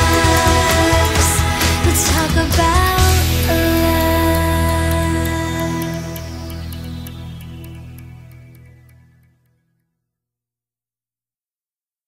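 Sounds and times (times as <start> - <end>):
background music sustained tones: 0.0 - 10.0.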